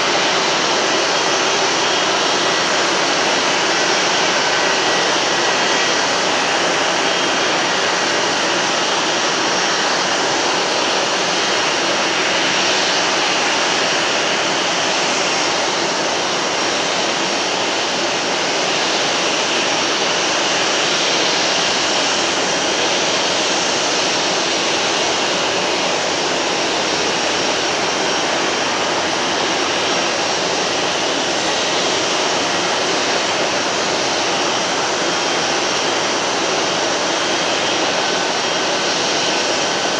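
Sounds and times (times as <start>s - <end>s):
jet engine rushing hum: 0.0s - 39.9s.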